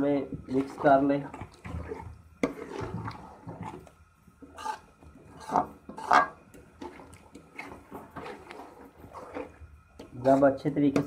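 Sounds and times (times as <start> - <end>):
metal spoon scraping a metal pot: 0.5 - 3.8, 4.4 - 11.0.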